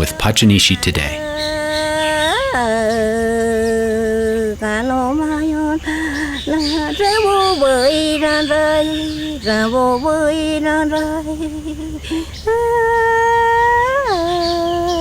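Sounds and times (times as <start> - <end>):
woman singing slow melody: 0.0 - 15.0.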